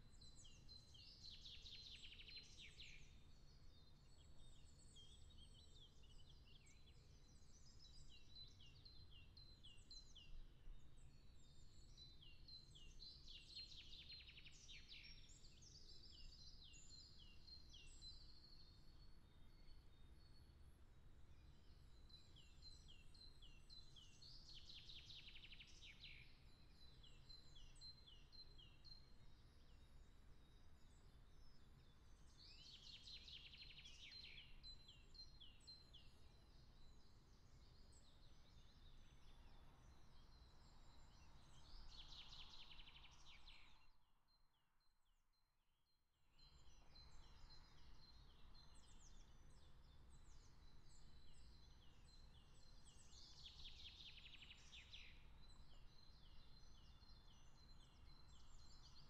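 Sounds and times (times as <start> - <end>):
faint small-bird chirps: 0.0 - 59.0.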